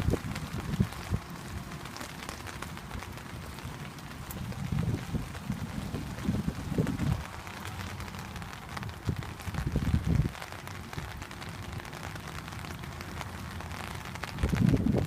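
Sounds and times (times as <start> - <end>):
low rumbles: 0.0 - 15.0
rain on pavement: 0.0 - 15.0.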